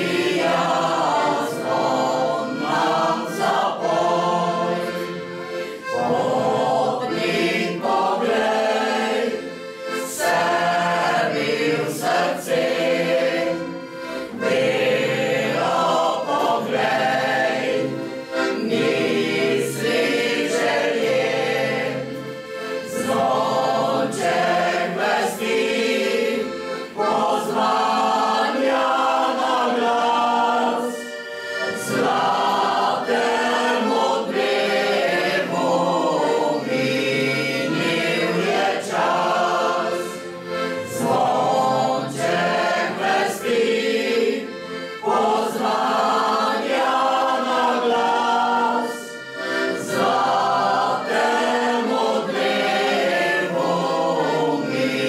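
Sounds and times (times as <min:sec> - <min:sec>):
accordion: 0:00.0 - 0:55.0
choir singing: 0:00.0 - 0:55.0.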